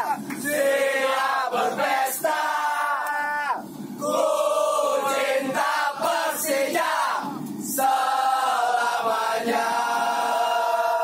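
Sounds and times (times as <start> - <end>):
crowd singing a chant: 0.4 - 3.2, 4.0 - 11.0.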